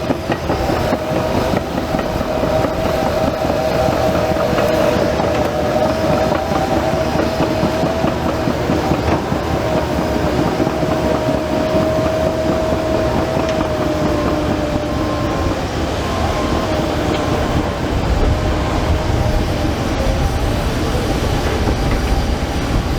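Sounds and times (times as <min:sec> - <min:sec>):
diesel engine running: 0:00.0 - 0:22.9
steady whine: 0:00.0 - 0:22.9
steel tracks clanking: 0:00.0 - 0:22.9.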